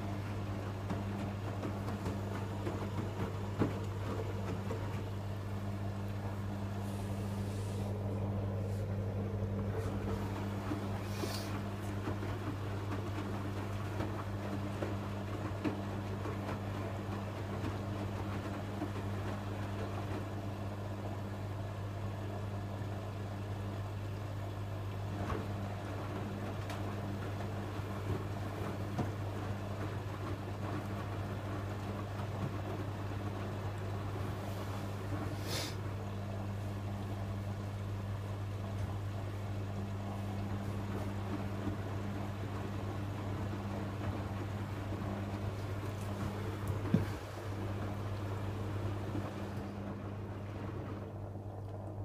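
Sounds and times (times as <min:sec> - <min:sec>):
washing machine drum humming: 0:00.0 - 0:52.0.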